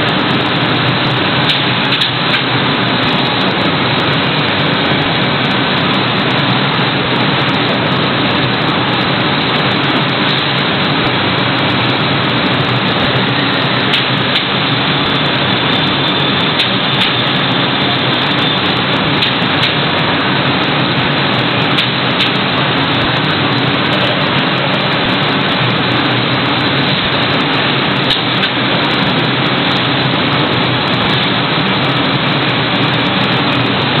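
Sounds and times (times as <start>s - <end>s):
freezer rushing noise: 0.0s - 34.0s.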